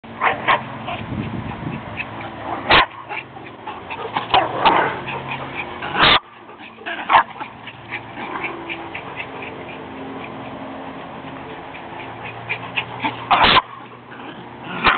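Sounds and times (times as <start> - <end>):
dogs whimpering and yipping: 0.5 - 14.9.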